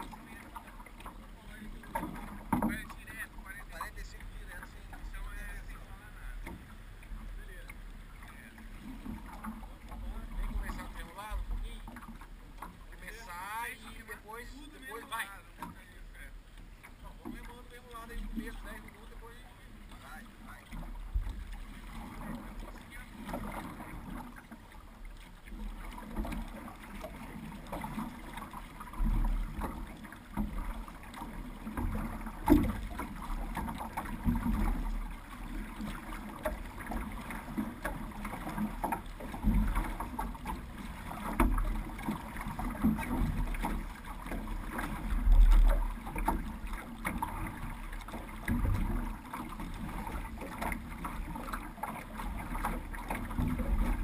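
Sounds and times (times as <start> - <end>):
paddle strokes: 0.0 - 54.0
water lapping against hull: 0.0 - 54.0.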